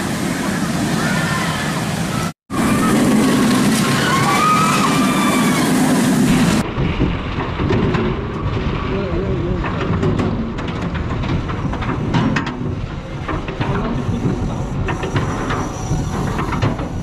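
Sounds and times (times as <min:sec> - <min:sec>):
roller coaster wheels rumbling: 0:00.0 - 0:17.0.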